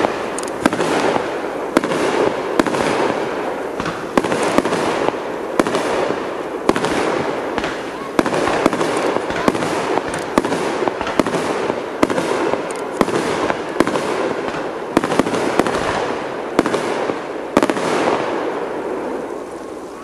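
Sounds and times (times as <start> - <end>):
firework shells bursting: 0.0 - 18.2
dense fireworks crackle: 0.0 - 20.0.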